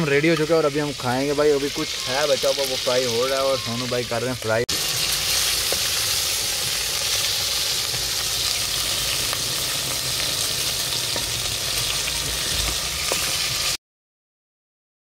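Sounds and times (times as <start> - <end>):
chicken sizzling in a pot: 0.0 - 13.8.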